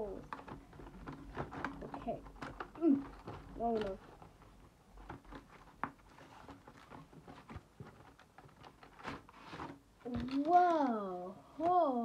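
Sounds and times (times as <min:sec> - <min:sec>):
pencil box rustling and tapping: 0:00.0 - 0:11.9.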